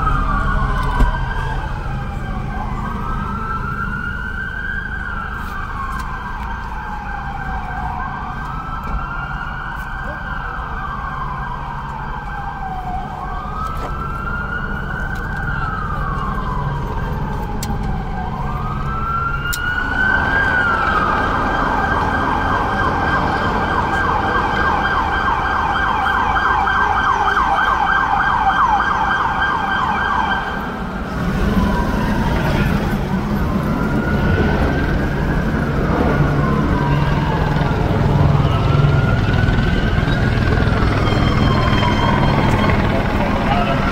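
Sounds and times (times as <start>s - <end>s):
siren wailing: 0.0s - 43.9s
siren yelping: 0.0s - 43.9s.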